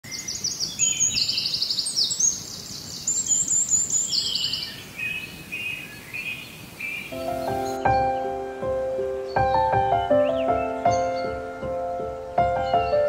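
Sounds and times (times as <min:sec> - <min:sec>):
faint outdoor background noise: 0:00.0 - 0:13.0
songbirds singing: 0:00.0 - 0:13.0.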